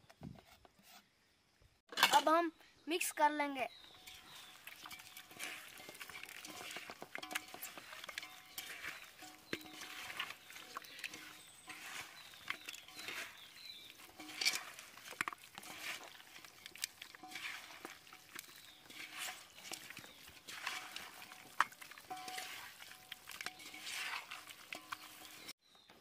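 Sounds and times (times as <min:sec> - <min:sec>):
wet squelching of meat: 0:04.1 - 0:25.5.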